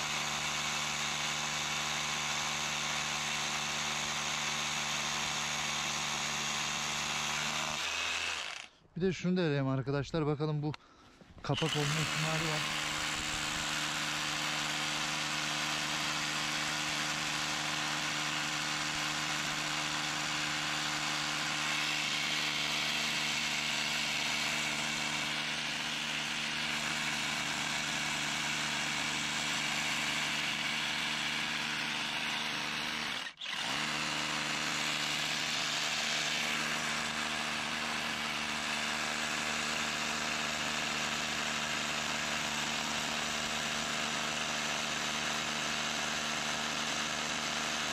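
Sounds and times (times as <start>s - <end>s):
small engine running: 0.0s - 8.8s, 11.5s - 47.9s.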